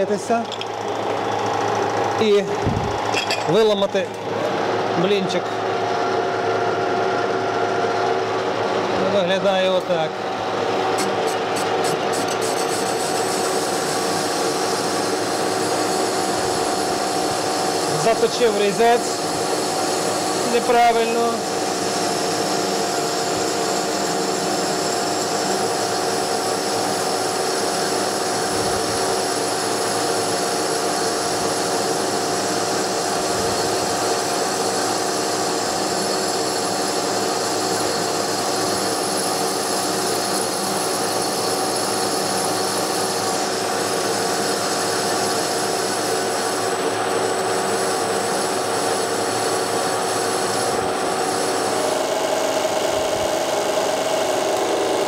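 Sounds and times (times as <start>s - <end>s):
metal lathe cutting: 0.0s - 55.0s.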